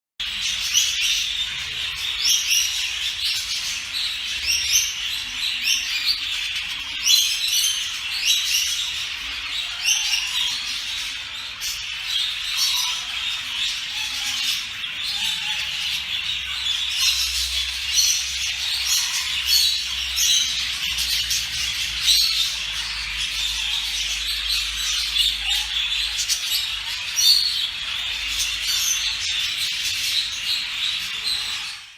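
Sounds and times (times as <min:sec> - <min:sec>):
budgerigars chattering and chirping: 0:00.2 - 0:31.9.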